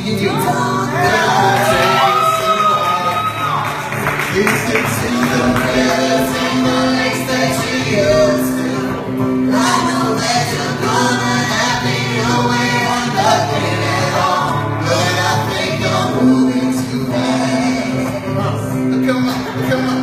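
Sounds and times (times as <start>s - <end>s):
pop song with harmony vocals: 0.0s - 20.0s.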